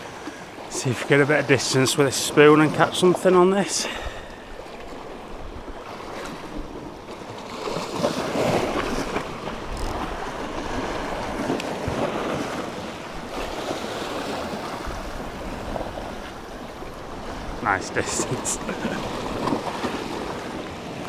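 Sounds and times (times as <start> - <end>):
sea waves washing against rocks: 0.0 - 21.0.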